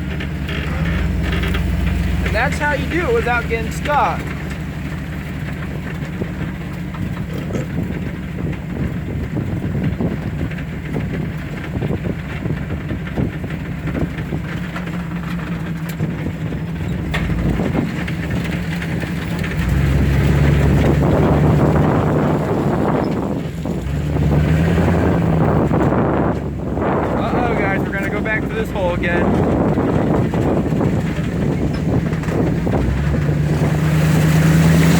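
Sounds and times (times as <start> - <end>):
car engine running: 0.0 - 34.9
vehicle knocks and rattles: 0.0 - 34.9.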